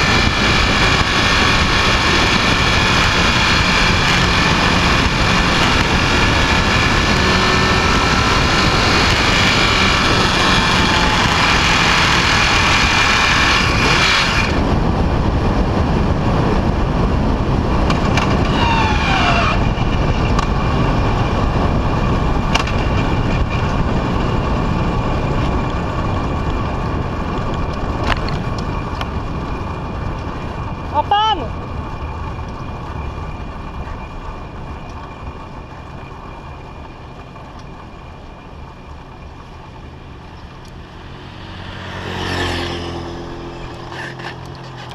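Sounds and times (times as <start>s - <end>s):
motorcycle engine: 0.0s - 44.9s
wind noise on microphone: 0.0s - 44.9s.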